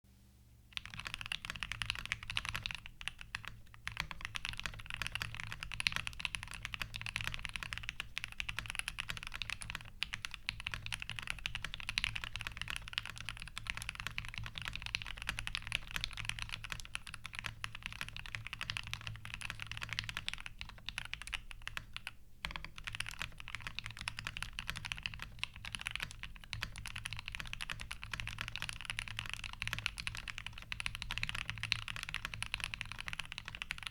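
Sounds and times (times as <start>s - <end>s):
mechanical keyboard typing: 0.7s - 33.9s.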